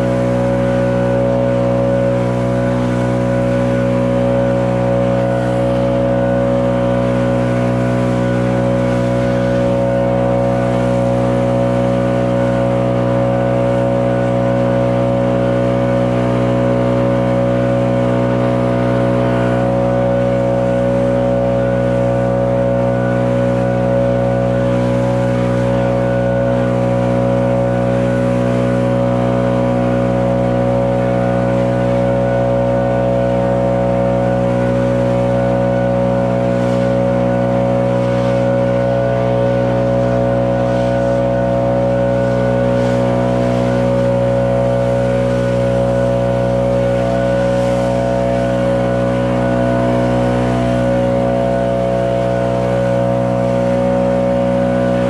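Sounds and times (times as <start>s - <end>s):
leaf blower engine running: 0.0s - 55.0s.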